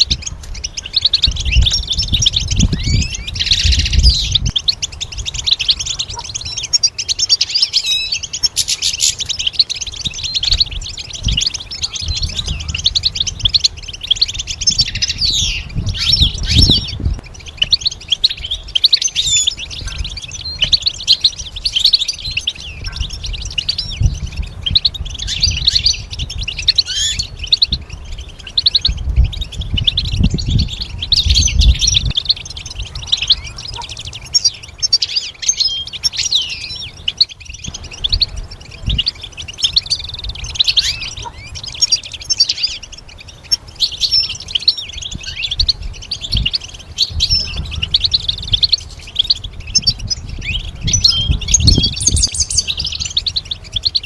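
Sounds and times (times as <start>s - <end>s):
goldfinch twittering song: 0.0s - 54.0s.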